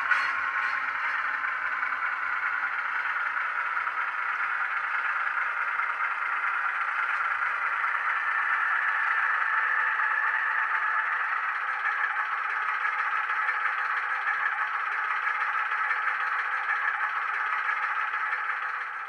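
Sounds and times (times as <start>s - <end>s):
model diesel engine sound from speaker: 0.0s - 19.0s.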